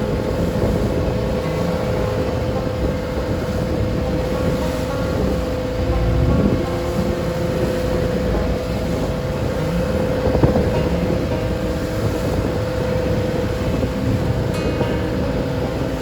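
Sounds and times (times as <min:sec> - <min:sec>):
boat engine droning: 0:00.0 - 0:16.0
wind noise on microphone: 0:00.0 - 0:16.0.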